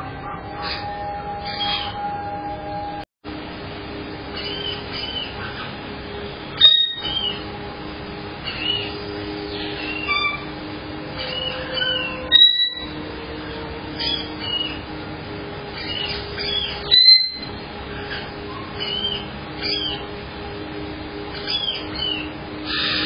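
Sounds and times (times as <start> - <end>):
steady low hum: 0.0 - 23.0
parrots chirping and squawking: 0.2 - 2.1, 4.3 - 7.6, 8.4 - 10.5, 11.2 - 23.0.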